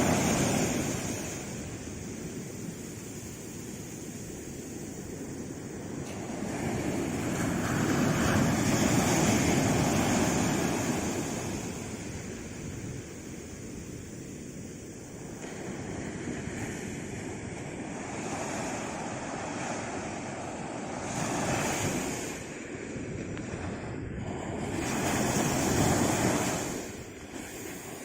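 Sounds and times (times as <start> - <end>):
sea waves breaking: 0.0 - 28.0.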